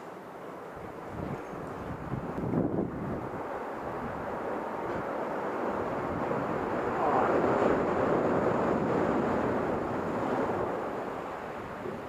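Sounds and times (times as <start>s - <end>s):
ocean surf breaking: 1.0s - 12.0s.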